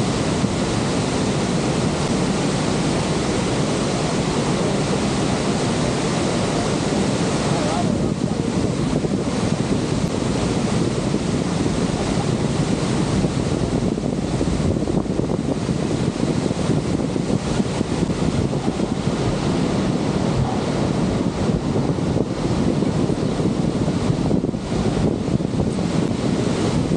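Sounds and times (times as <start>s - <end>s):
waterfall roaring: 0.0s - 26.9s
wind buffeting microphone: 0.0s - 26.9s.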